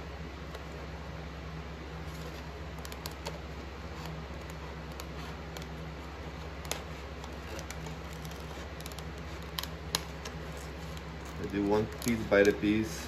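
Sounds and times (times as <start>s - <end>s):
low hum: 0.0s - 13.0s
scissors snipping paper: 2.1s - 12.9s.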